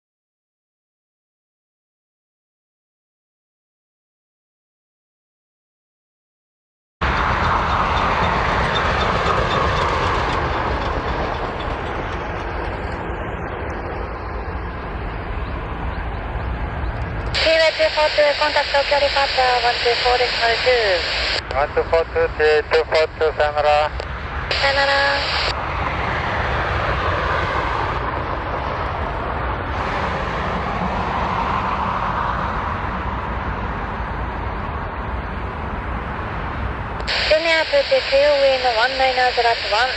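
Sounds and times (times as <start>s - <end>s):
jet engines rumbling at takeoff: 7.0s - 39.9s.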